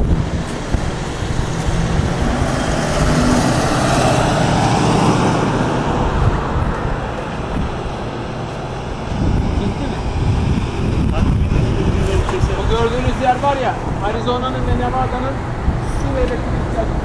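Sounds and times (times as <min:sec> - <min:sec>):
vehicle driving past: 0:00.0 - 0:14.1.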